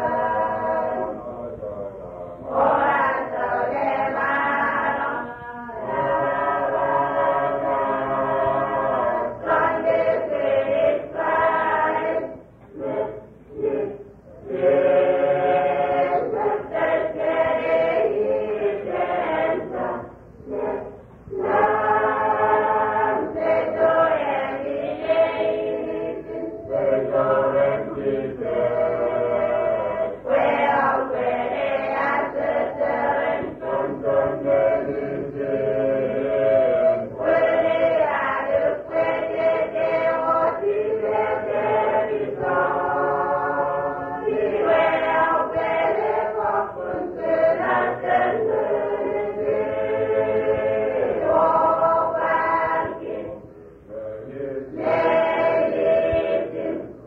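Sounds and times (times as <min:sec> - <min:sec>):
choir chanting: 0:00.0 - 0:57.0.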